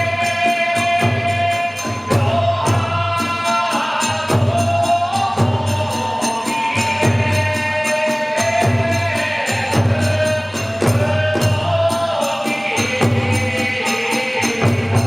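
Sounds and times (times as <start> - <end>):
big drum beating: 0.0 - 15.0.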